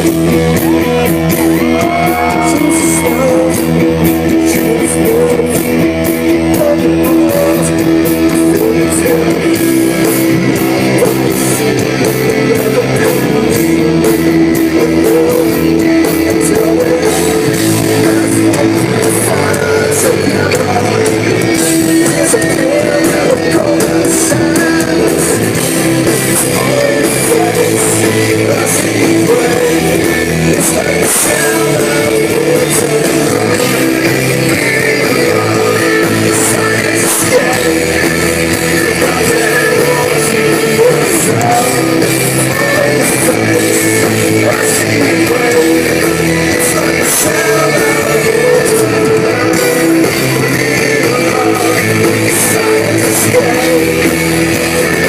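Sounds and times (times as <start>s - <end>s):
rock music with guitar: 0.0s - 55.0s.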